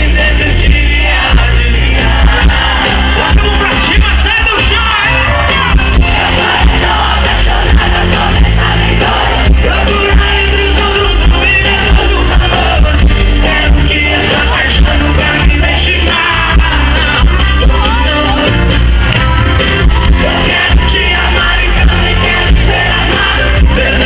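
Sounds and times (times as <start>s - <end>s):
man singing: 0.0s - 5.3s, 6.0s - 18.8s, 20.0s - 24.0s
crowd yelling along: 0.0s - 24.0s
heavy bass beat: 0.0s - 24.0s
live band playing: 0.0s - 24.0s.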